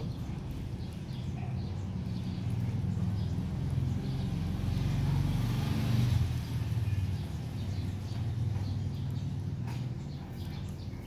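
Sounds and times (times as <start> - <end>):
motor vehicle passing: 0.0 - 11.0.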